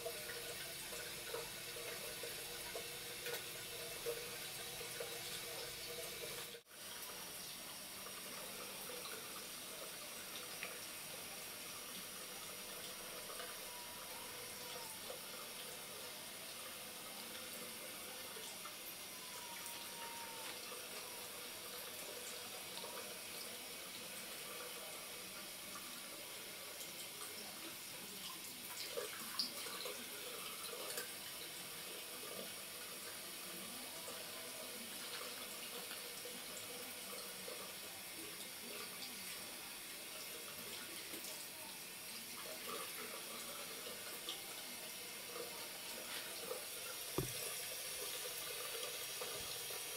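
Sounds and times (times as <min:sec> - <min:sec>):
tap water running into sink: 0:00.0 - 0:27.5, 0:28.2 - 0:49.9.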